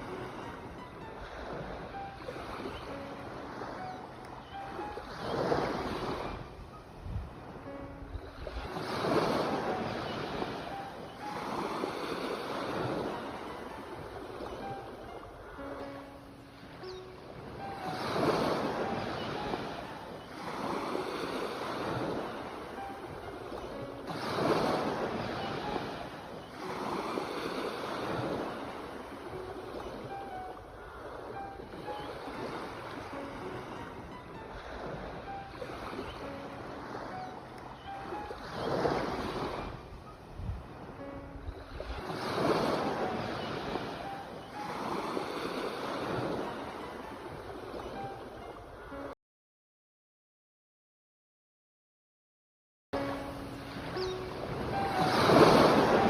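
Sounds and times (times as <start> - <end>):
ocean waves breaking on shore: 0.0 - 49.2, 53.0 - 56.0.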